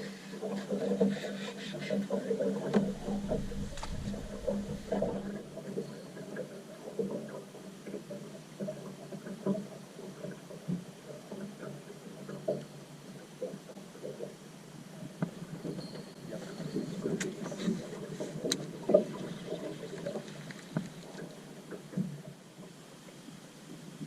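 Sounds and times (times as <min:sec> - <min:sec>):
river water gurgling: 0:00.0 - 0:23.7.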